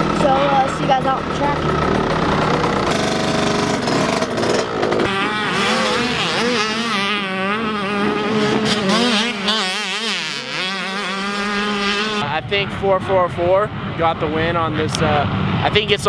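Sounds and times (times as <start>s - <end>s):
motocross bike engine revving: 0.0s - 13.3s.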